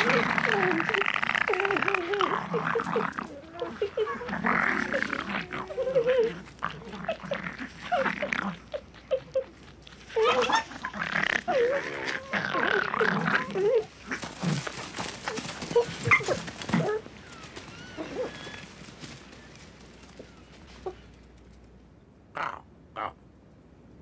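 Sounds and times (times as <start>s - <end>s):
animals snarling and yelping: 0.0s - 21.4s.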